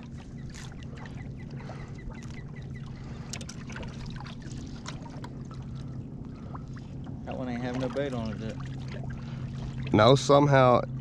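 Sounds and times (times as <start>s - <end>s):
light water splashes: 0.0s - 10.8s
low mechanical hum: 0.0s - 11.0s.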